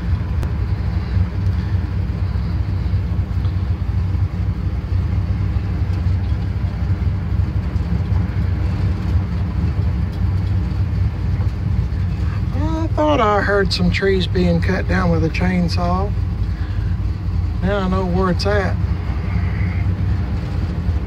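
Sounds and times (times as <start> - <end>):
pickup engine rumble: 0.0 - 21.0.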